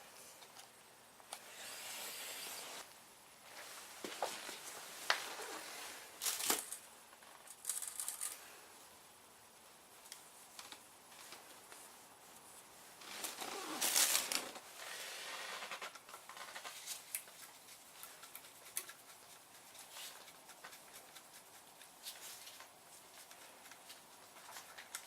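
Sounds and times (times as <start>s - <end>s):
rustling and scraping: 1.4s - 8.5s, 10.5s - 25.0s.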